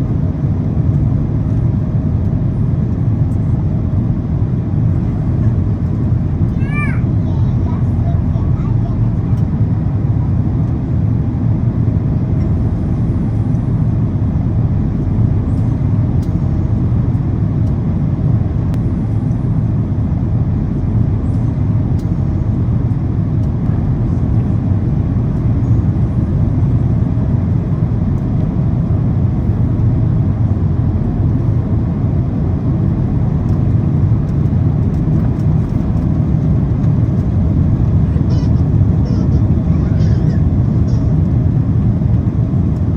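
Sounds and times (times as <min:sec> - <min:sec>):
airplane cabin engine drone: 0:00.0 - 0:42.9.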